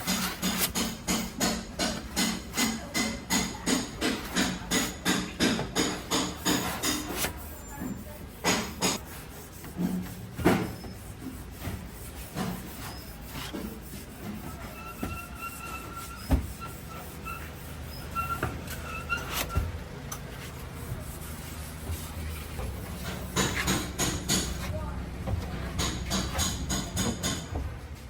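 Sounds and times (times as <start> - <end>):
knocks and clanks of metal work: 0.0 - 20.3, 21.8 - 28.0.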